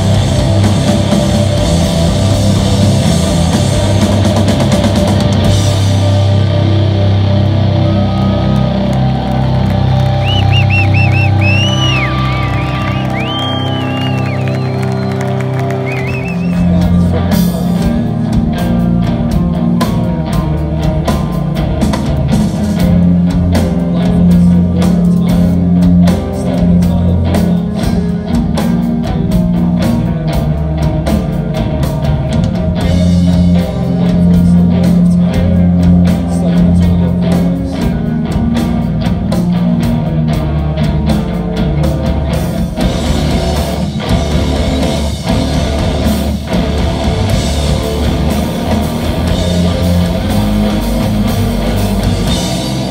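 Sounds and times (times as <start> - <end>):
bass guitar: 0.0 - 52.9
distorted electric guitars: 0.0 - 52.9
drums: 0.0 - 52.9.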